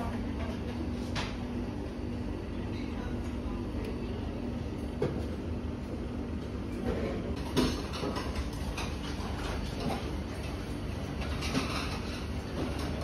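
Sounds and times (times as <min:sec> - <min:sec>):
low indoor rumble: 0:00.0 - 0:13.0.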